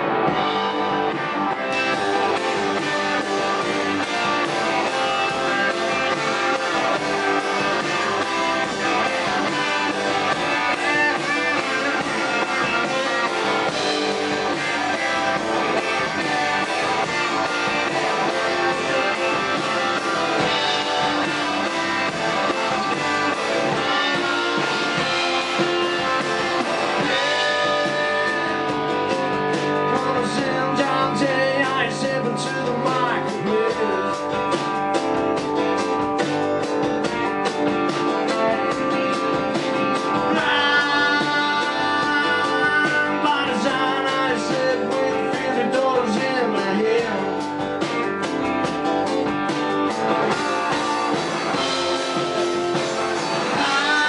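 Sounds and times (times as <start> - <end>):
electric guitar: 0.0 - 54.0
live rock band playing: 0.0 - 54.0.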